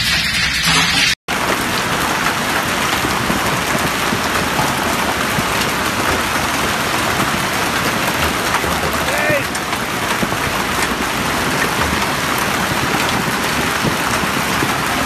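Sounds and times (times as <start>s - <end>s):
hail and rain pelting pavement: 1.3s - 15.0s.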